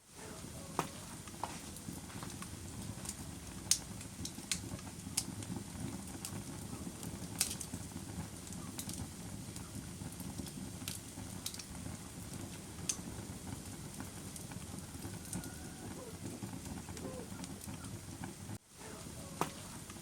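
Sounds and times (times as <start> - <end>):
low rush of burning: 0.0 - 20.0
fire popping and snapping: 0.1 - 20.0.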